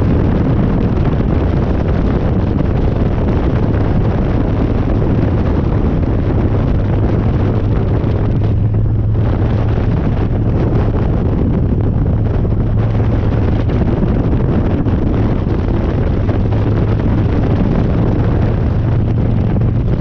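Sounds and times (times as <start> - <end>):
motorcycle engine droning: 0.0 - 20.0
wind rush on microphone: 0.0 - 20.0.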